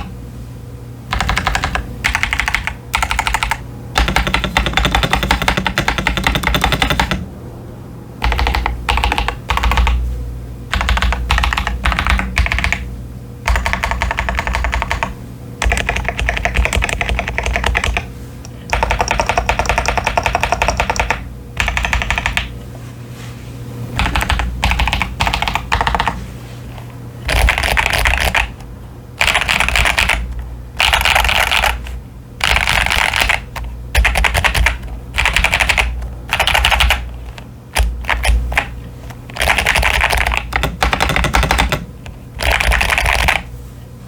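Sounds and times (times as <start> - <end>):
typing on mechanical keyboard: 1.1 - 7.2, 8.2 - 10.0, 10.7 - 22.5, 24.0 - 28.6, 29.2 - 43.5.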